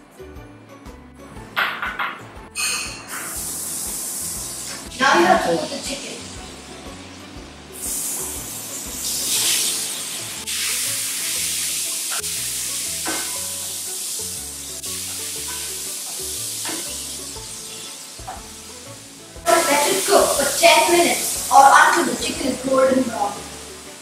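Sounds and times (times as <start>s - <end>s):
food sizzling in a frying pan: 2.6s - 24.0s.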